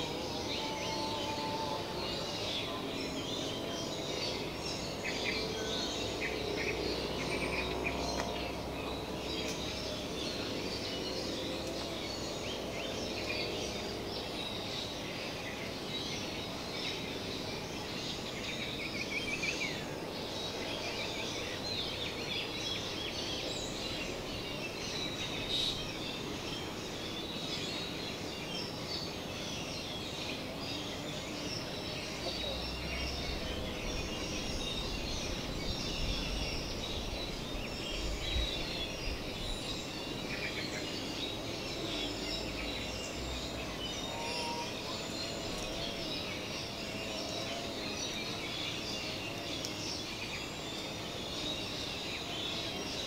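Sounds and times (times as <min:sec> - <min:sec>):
birds chirping and calling: 0:00.0 - 0:53.0.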